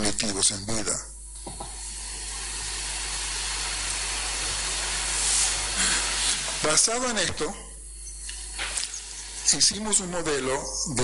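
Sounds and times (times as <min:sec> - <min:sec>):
steady hiss: 0:00.1 - 0:11.0.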